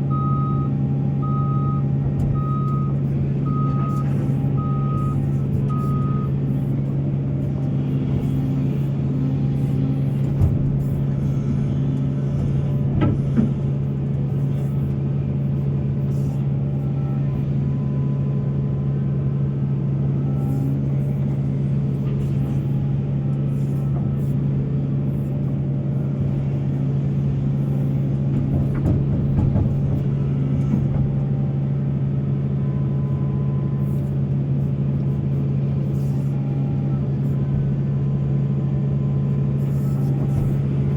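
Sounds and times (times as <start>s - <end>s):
heavy diesel machinery drone: 0.0s - 40.9s.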